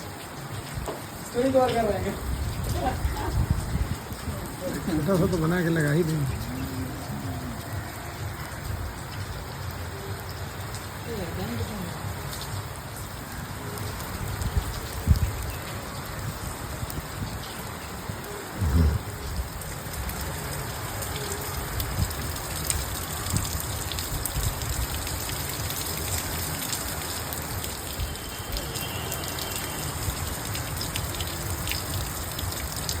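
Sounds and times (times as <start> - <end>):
rain falling steadily: 0.0 - 33.0.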